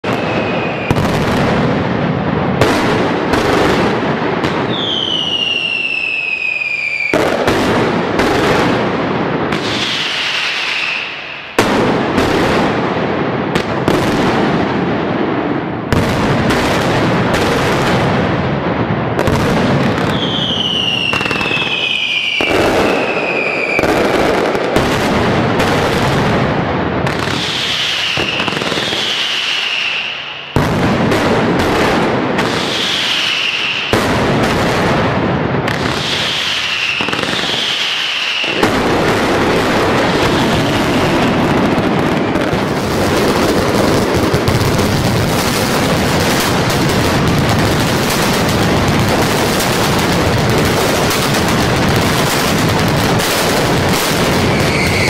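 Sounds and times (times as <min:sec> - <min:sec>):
firecrackers banging in volleys: 0:00.0 - 0:55.0
whistling fireworks: 0:00.0 - 0:55.0.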